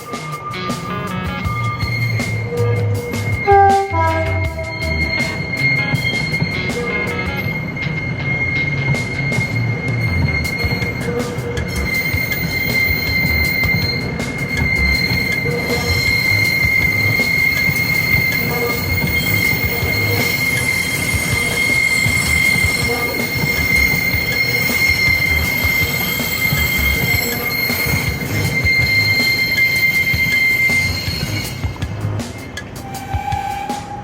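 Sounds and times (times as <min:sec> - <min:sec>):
train wheels squealing: 0:00.0 - 0:34.0
wheels rumbling on rail: 0:00.0 - 0:34.0.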